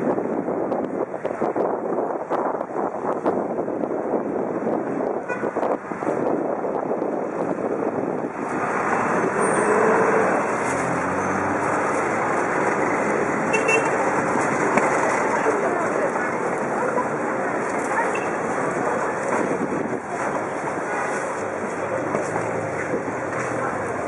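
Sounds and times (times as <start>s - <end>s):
city street traffic: 0.0s - 24.0s.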